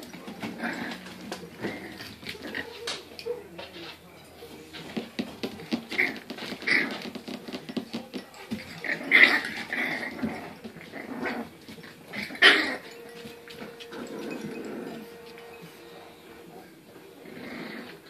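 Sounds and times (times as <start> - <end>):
puppies growling: 0.0 - 4.0, 4.7 - 18.0.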